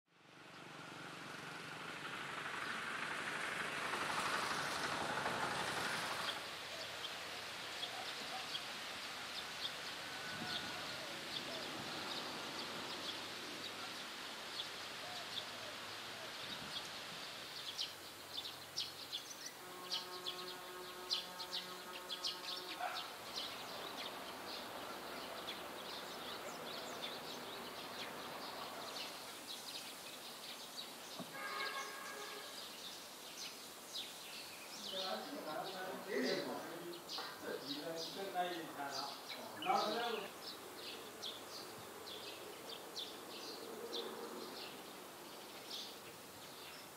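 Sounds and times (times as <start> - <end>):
background hiss: 0.2 - 46.9
small birds chirping: 0.4 - 46.9.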